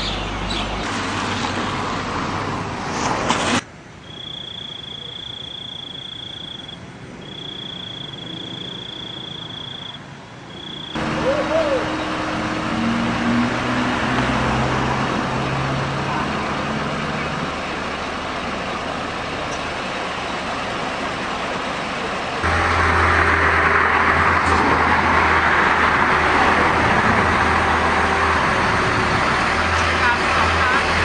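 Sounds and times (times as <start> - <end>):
engine hum: 0.0 - 31.0
road traffic: 0.0 - 31.0.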